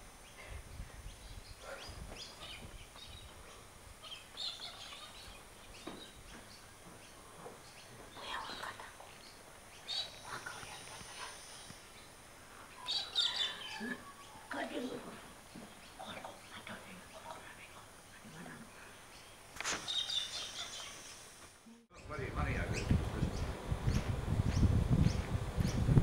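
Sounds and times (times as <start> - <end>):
faint bird chirps: 0.2 - 15.0, 15.7 - 23.5.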